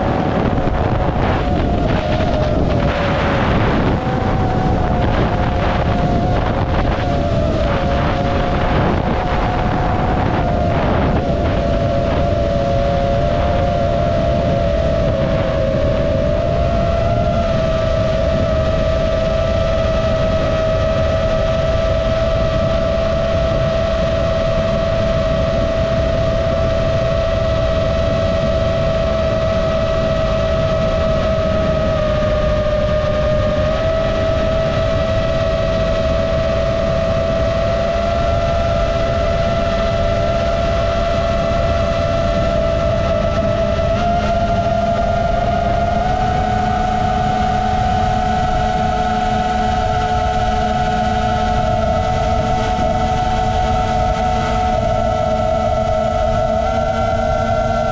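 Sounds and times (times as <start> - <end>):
drone motors whining: 0.0 - 57.9
wind on microphone: 0.0 - 57.9.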